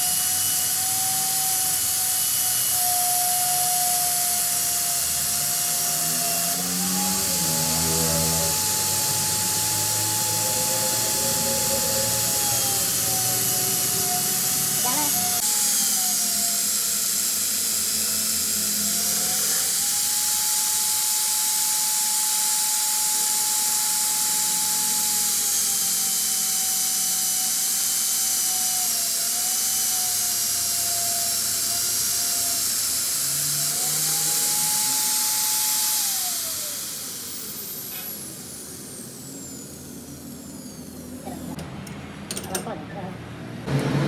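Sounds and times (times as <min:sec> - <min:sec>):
electric grinder grinding metal: 0:00.0 - 0:41.6, 0:43.7 - 0:44.0.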